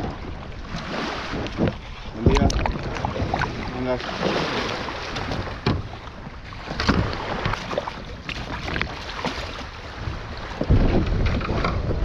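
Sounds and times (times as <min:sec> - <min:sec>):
small waves lapping at shore: 0:00.0 - 0:11.6
kayak and paddle knocking: 0:00.0 - 0:12.0.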